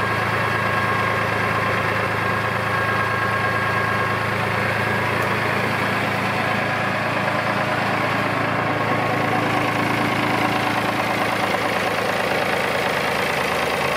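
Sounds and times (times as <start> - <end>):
tractor diesel engine idling: 0.0 - 13.9.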